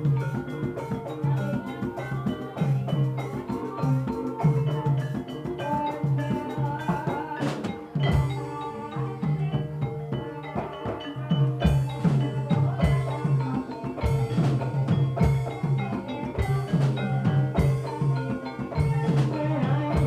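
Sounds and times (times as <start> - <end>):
hand drum strokes: 0.0 - 20.0
mallet-struck tuned percussion: 0.0 - 20.0.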